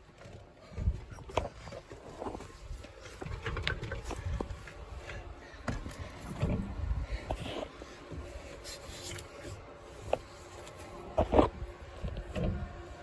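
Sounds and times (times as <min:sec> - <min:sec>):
rubbing and handling noise: 0:00.2 - 0:13.0.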